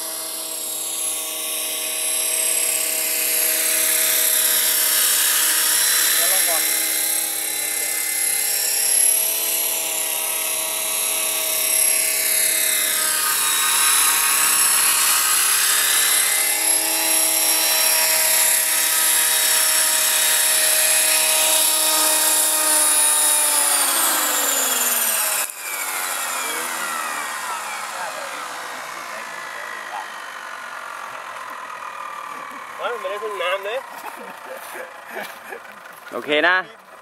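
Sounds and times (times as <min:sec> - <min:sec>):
electric motor high whine: 0:00.0 - 0:35.8
helicopter rotor whirring: 0:00.0 - 0:37.0.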